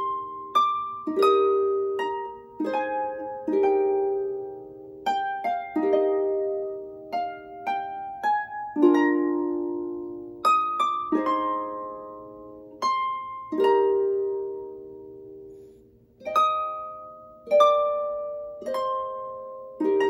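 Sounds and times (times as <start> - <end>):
harp playing a slow carol: 0.0 - 20.0.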